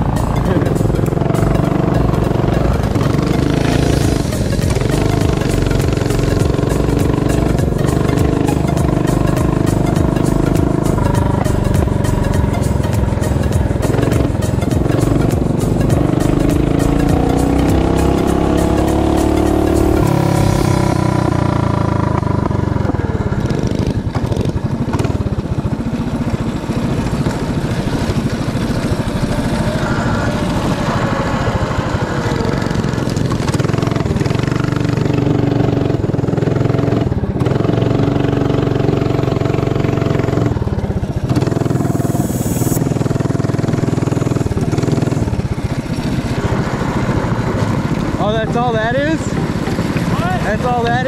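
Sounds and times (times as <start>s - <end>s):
small motorbike engine running: 0.0s - 51.0s.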